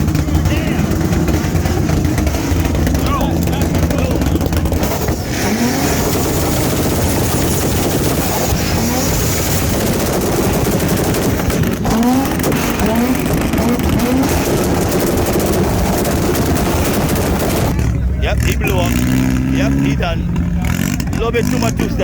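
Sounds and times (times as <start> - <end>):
car exhaust pops crackling: 0.0 - 22.0.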